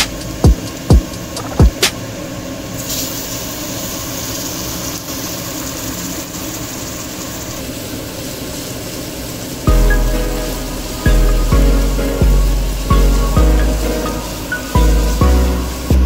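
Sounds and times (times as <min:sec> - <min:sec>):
food sizzling in a pan: 0:02.0 - 0:16.0.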